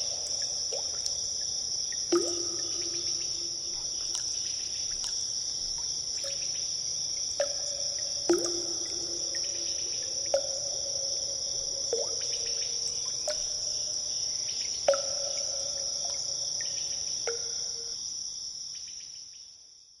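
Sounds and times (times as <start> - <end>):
water drops plinking into pool: 0.0 - 14.2, 14.8 - 18.0.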